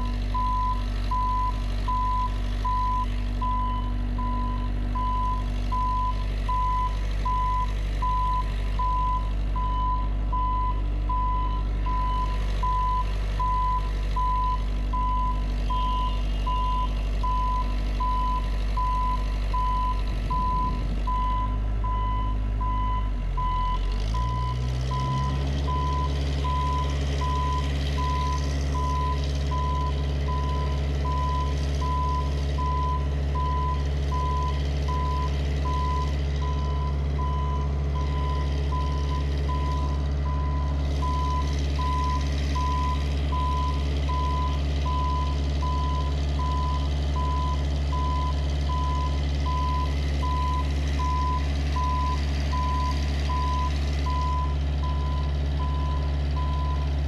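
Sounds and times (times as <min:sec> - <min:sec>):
boom lift engine running: 0:00.0 - 0:57.0.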